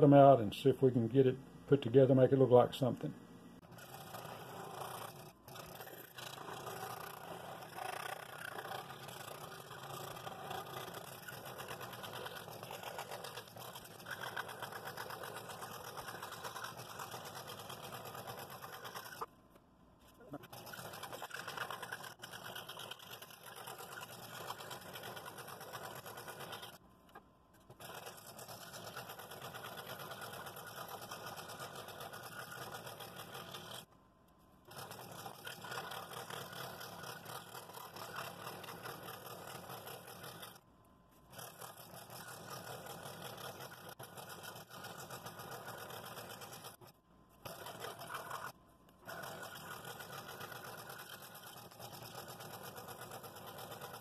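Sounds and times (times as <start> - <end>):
scroll saw cutting wood: 3.6 - 19.3, 20.1 - 26.8, 27.6 - 33.9, 34.7 - 40.6, 41.2 - 54.0.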